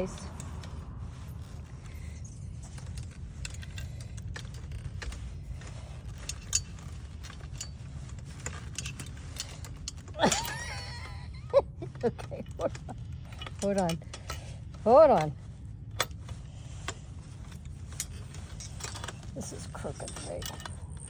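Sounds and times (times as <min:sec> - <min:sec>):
steady low hum: 0:00.0 - 0:21.0
umbrella mechanism clicks and rattles: 0:00.0 - 0:21.0.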